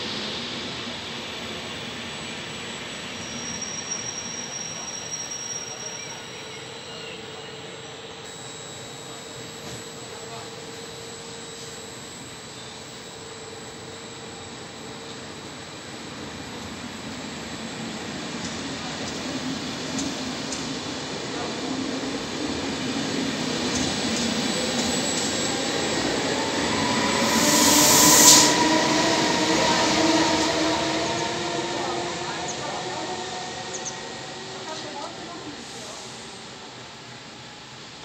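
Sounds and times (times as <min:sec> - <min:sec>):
train rolling with rushing hiss: 0:00.0 - 0:08.3, 0:13.2 - 0:38.0
thin high whine: 0:00.0 - 0:37.7.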